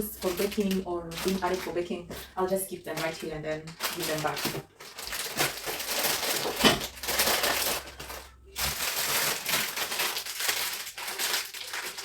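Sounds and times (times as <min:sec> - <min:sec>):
plastic packets crinkling: 0:00.0 - 0:12.0.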